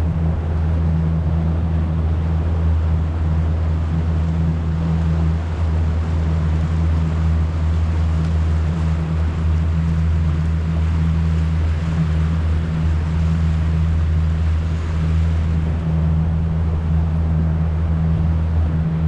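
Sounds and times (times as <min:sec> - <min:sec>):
low engine hum: 0:00.0 - 0:19.0
wind and water hiss: 0:00.0 - 0:19.0.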